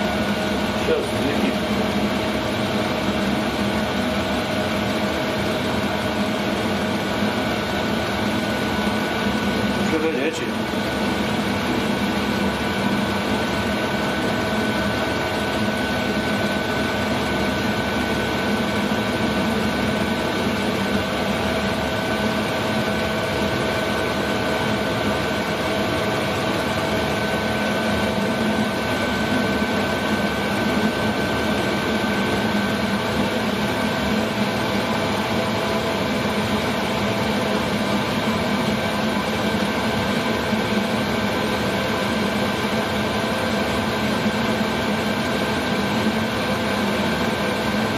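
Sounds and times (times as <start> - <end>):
air heater blower whine: 0.0 - 47.9.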